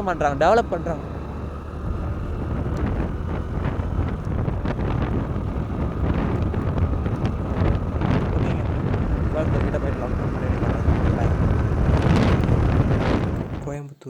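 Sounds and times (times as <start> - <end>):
road and engine noise: 0.0 - 13.8
wind buffeting microphone: 0.0 - 13.8.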